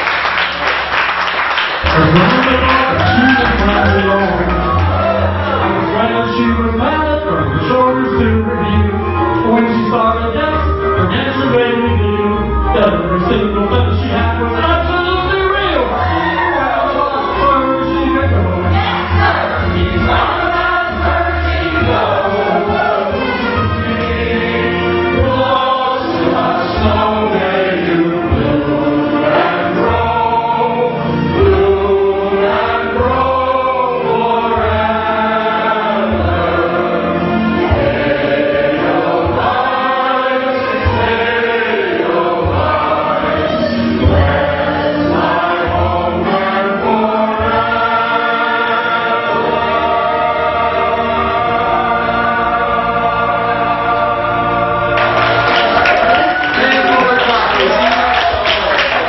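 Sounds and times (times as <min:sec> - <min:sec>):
mixed choir singing: 0:01.9 - 0:08.6, 0:13.7 - 0:59.0.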